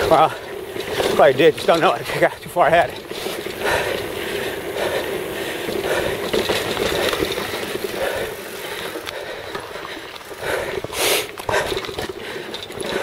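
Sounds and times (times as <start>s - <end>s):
bike tyres on dirt: 0.0s - 13.0s.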